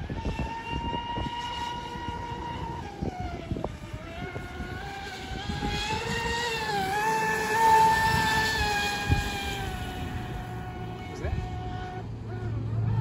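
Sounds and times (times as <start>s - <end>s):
rc boat motor whine: 0.0s - 13.0s.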